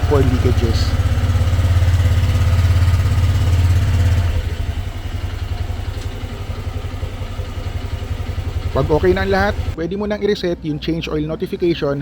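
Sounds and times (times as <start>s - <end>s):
scooter engine running: 0.0s - 9.8s.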